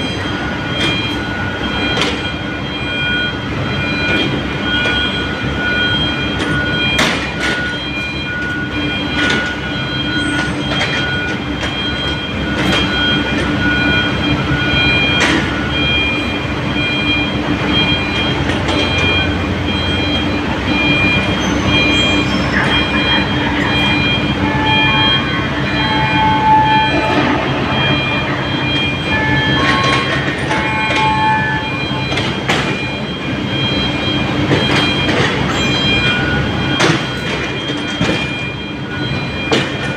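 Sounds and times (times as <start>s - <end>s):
hydraulic squeals and whines: 0.0s - 18.2s, 18.8s - 39.9s
excavator diesel engine under load: 0.0s - 39.9s
steel tracks clanking: 0.0s - 39.9s.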